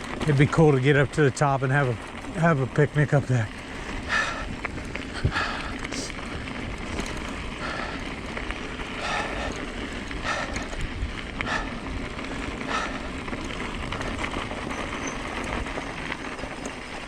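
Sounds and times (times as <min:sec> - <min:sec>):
bike tyres on dirt trail: 0:00.0 - 0:17.0.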